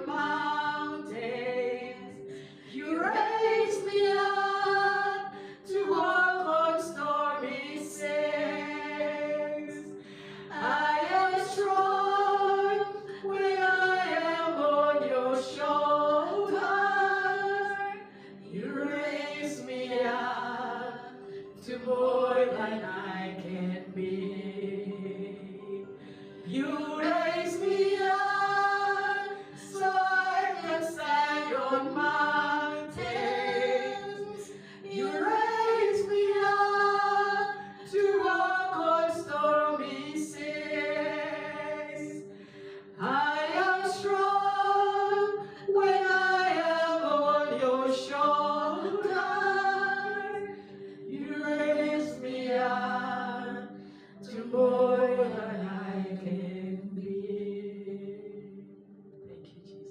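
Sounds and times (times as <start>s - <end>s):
person singing worship song: 0.0s - 59.9s.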